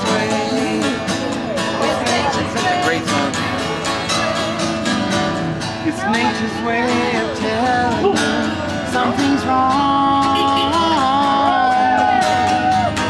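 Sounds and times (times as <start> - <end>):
man and woman singing: 0.0 - 3.8, 5.8 - 12.9
acoustic guitar strumming: 0.0 - 13.0.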